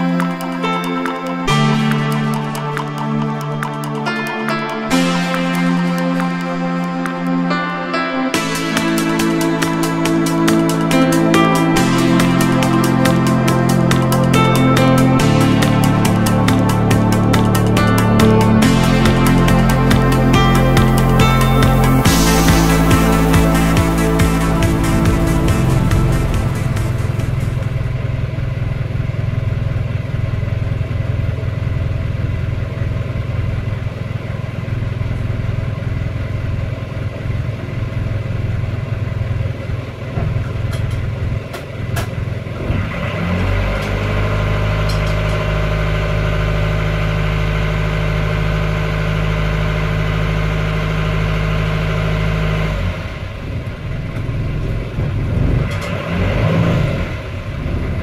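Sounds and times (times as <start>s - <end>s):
boat diesel engine running: 0.0s - 55.6s.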